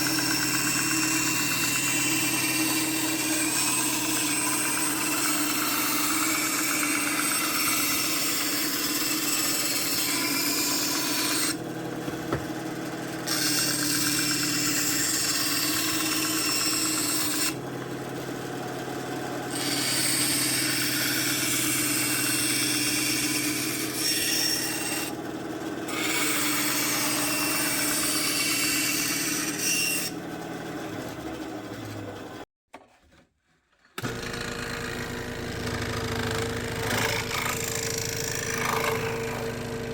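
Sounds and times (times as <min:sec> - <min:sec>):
tool motor hum: 0:00.0 - 0:32.4, 0:34.0 - 0:39.9
power tool grinding plastic: 0:00.0 - 0:39.9.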